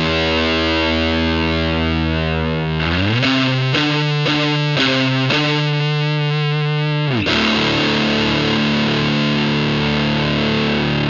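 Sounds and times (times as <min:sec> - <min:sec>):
fuzzed electric guitar: 0:00.0 - 0:11.0.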